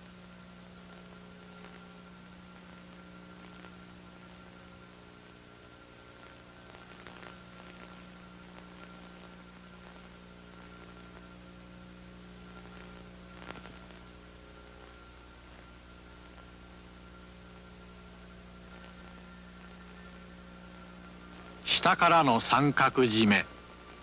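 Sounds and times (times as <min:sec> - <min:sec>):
electrical hum and hiss: 0:00.0 - 0:24.0.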